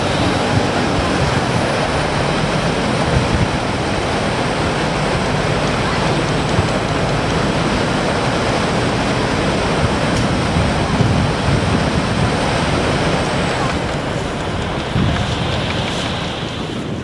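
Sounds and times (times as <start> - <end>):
hovercraft fans and propellers: 0.0 - 17.0
low rumble: 0.0 - 17.0.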